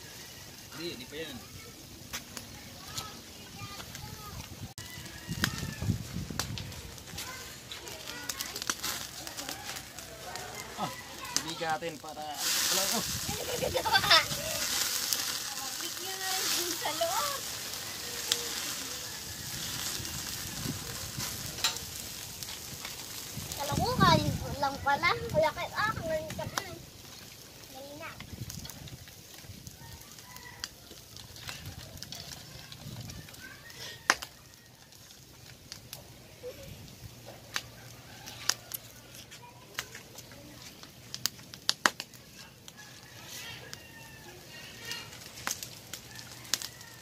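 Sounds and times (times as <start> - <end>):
meat sizzling on grill: 0.0 - 47.0
crackling pops: 1.7 - 47.0.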